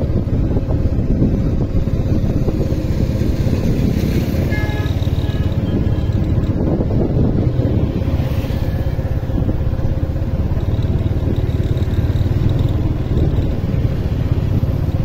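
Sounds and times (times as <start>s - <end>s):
motorbike engine and road rumble: 0.0s - 15.0s.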